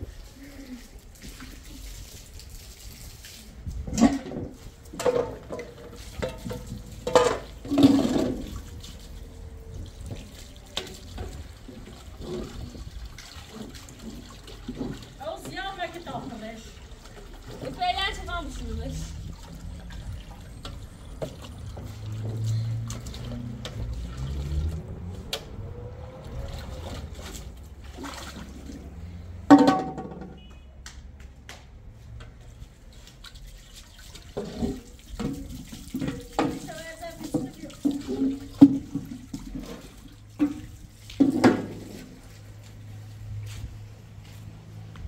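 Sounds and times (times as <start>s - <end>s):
hose water into metal pot: 0.0s - 30.0s, 32.4s - 43.2s.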